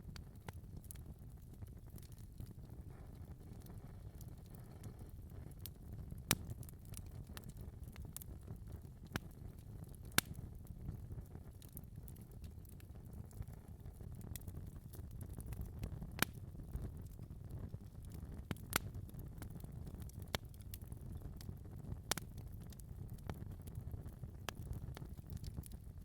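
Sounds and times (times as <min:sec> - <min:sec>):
low fire rumble: 0:00.0 - 0:26.0
fire popping: 0:00.1 - 0:26.0.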